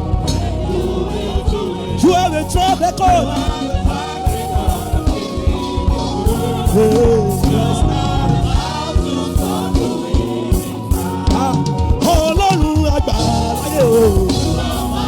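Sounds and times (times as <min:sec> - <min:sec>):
gospel band music: 0:00.0 - 0:15.0
steady drum beat: 0:00.0 - 0:15.0
voices singing: 0:00.0 - 0:15.0.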